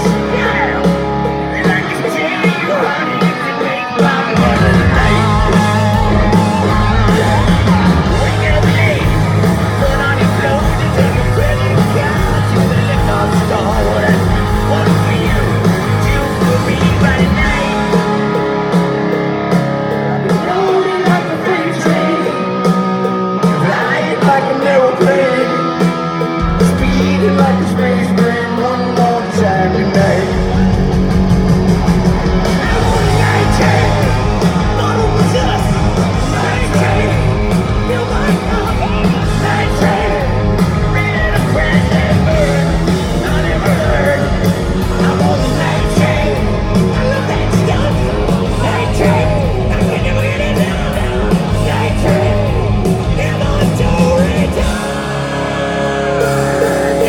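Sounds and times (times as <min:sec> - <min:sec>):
bass guitar: 0:00.0 - 0:57.0
distorted electric guitars: 0:00.0 - 0:57.0
drums: 0:00.0 - 0:57.0
lead vocal singing: 0:00.0 - 0:57.0.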